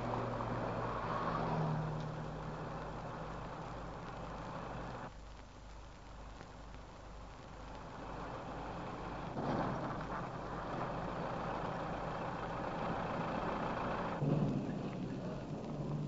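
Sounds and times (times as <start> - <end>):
diesel engine under load: 0.0 - 5.1, 7.8 - 16.0.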